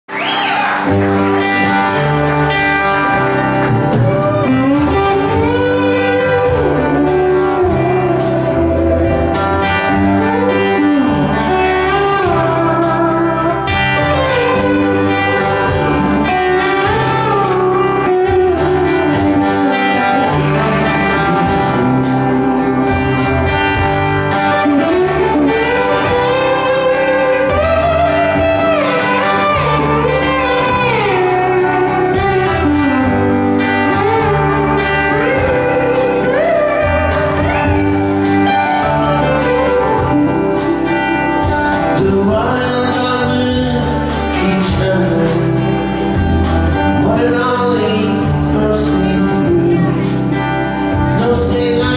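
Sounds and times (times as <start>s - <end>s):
bass guitar: 0.0s - 51.9s
electric guitar lead: 0.0s - 51.9s
steady drum beat: 0.9s - 19.7s, 20.3s - 48.6s.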